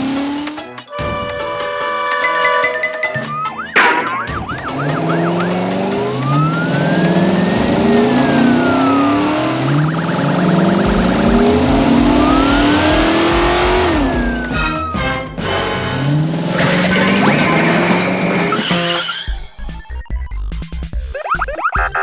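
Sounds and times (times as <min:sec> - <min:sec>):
car engine revving: 0:00.0 - 0:19.3
siren wailing: 0:00.9 - 0:19.3
siren rapid yelps: 0:00.9 - 0:19.4.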